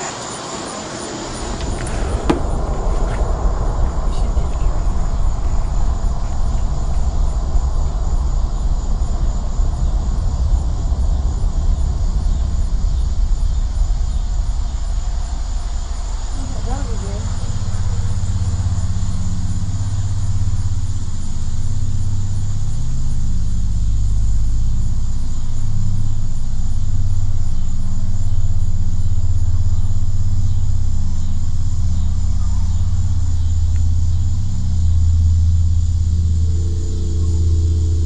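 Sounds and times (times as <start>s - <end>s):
low rumbling drone: 0.0s - 38.0s.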